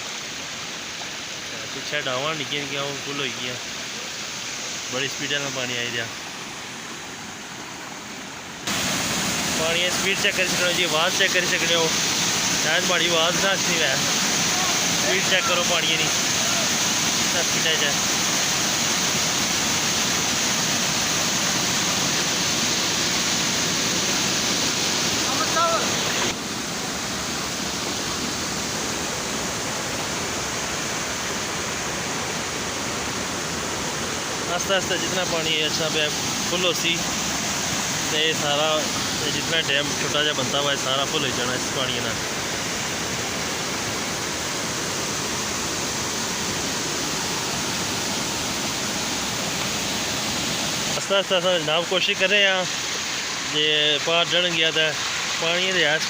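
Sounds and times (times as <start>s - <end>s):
fast stream rushing: 0.0s - 56.0s.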